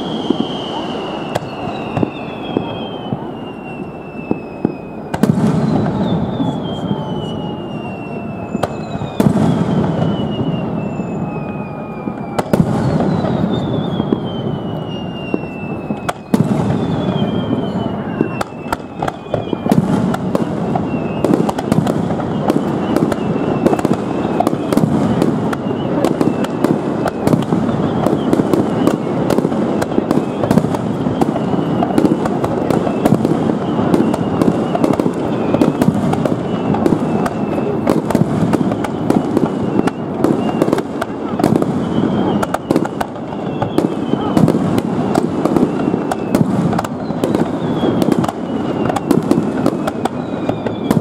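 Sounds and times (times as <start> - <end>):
fireworks bangs and crackling: 0.0 - 51.0.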